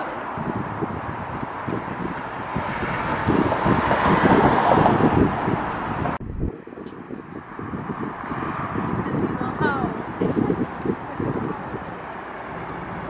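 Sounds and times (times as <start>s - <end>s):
road traffic passing: 0.0s - 13.0s
wind buffeting microphone: 0.0s - 13.0s.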